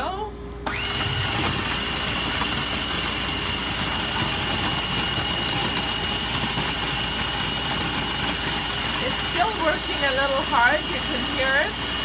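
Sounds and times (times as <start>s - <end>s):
food processor motor whining: 0.6s - 12.0s.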